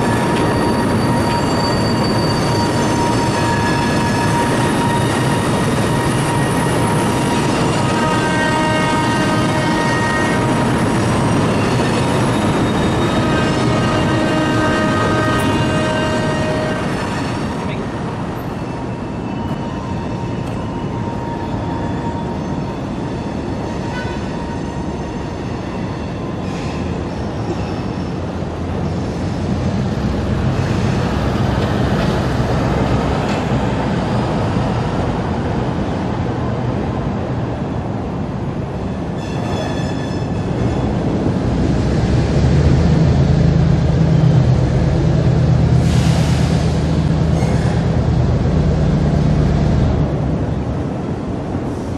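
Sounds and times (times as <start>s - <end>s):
city traffic noise: 0.0s - 51.9s
diesel locomotive engine droning: 0.0s - 51.9s.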